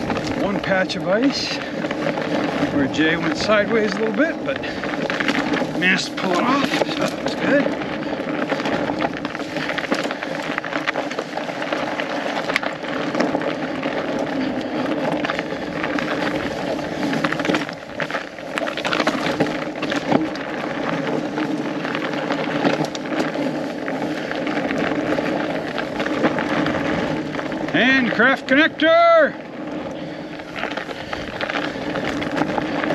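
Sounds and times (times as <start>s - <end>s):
bike rattling over bumps: 0.0s - 32.9s
bike tyres rolling over snow: 0.0s - 32.9s.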